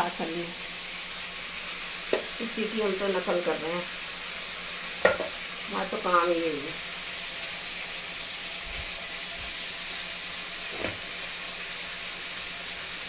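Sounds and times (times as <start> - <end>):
gourds sizzling in oil: 0.0 - 13.0.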